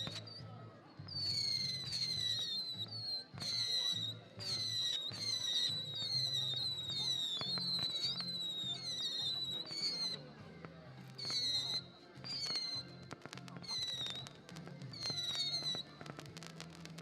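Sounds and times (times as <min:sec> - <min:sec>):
whistling firework shots: 0:00.0 - 0:10.4, 0:11.0 - 0:17.0
sharp firework cracks: 0:01.2 - 0:10.2, 0:11.0 - 0:17.0.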